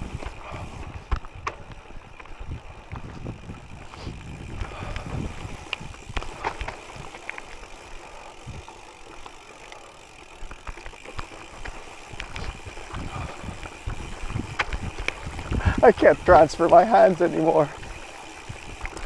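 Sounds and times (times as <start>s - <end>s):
bike rattling: 0.0s - 19.0s
bike tyres crunching over stones: 0.0s - 19.0s.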